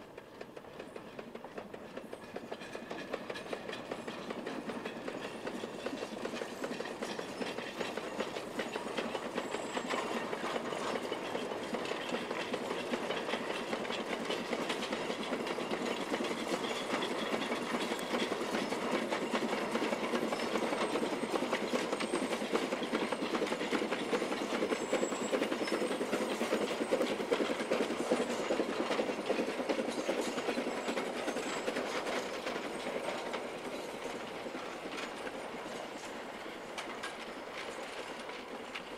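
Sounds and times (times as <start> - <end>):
steam locomotive chuffing: 0.0 - 38.9
wagon wheels clattering on rails: 0.2 - 38.9.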